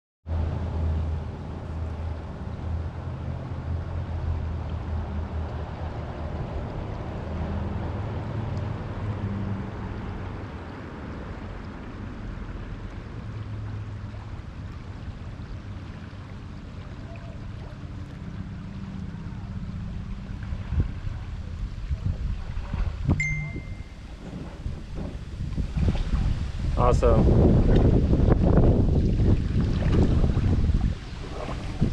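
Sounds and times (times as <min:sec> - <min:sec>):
low rumble: 0:00.3 - 0:31.9
river water rushing: 0:00.4 - 0:31.9.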